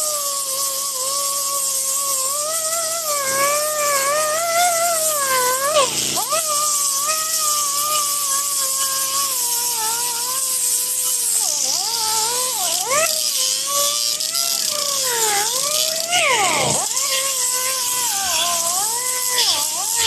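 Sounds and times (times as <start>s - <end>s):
power grinder grinding metal: 0.0s - 20.0s.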